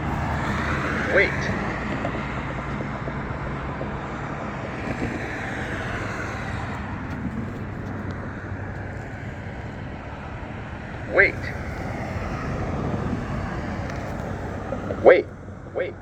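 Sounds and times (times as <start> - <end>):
tyre and road noise: 0.0 - 16.0
vehicles passing: 0.0 - 16.0.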